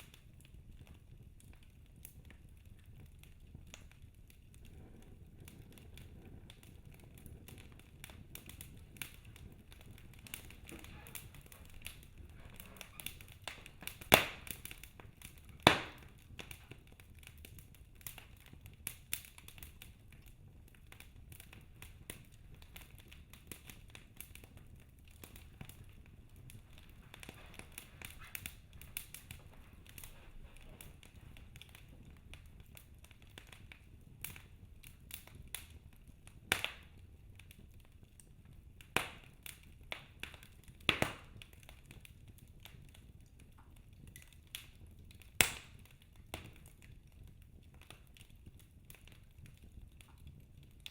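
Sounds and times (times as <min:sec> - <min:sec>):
sharp fire pops: 0:00.0 - 0:46.9
wood fire crackling: 0:00.0 - 0:50.9.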